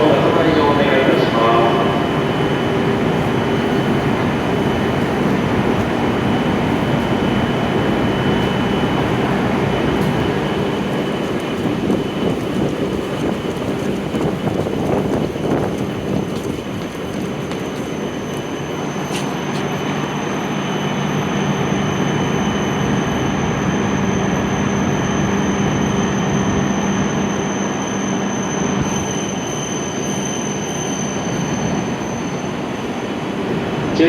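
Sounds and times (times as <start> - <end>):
train braking with high whine: 0.0 - 34.0.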